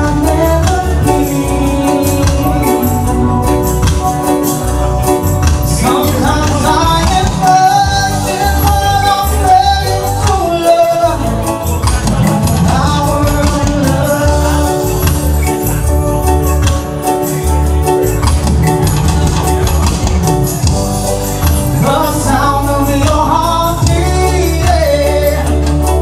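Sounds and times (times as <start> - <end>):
live reggae band: 0.0 - 26.0
man singing long notes: 0.0 - 26.0.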